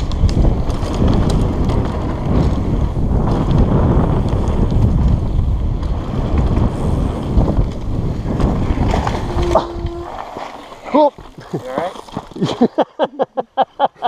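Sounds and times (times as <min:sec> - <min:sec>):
bike rattling over rocky ground: 0:00.0 - 0:12.7
wind buffeting microphone: 0:00.0 - 0:12.8.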